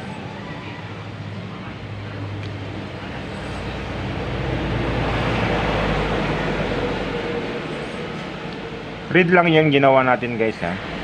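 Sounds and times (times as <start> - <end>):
passing motor vehicle rumble: 0.0 - 11.0.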